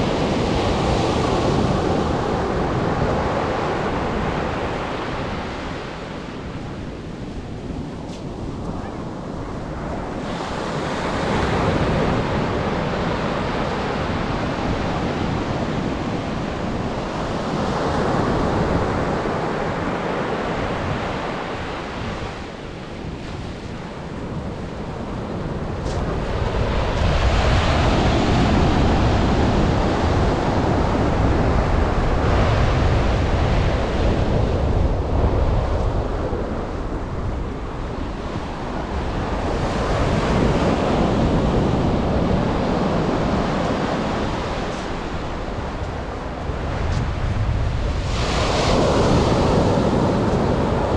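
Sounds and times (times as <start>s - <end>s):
surf breaking on beach: 0.0s - 50.9s
wind buffeting microphone: 0.0s - 50.9s.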